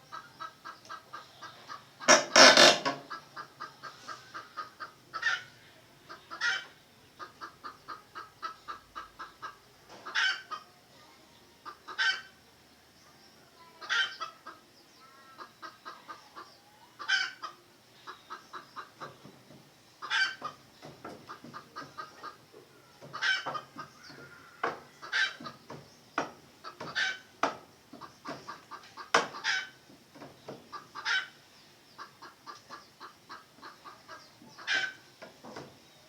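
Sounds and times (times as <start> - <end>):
junglefowl clucking: 0.0 - 10.7, 11.6 - 12.4, 13.8 - 19.3, 20.0 - 35.2.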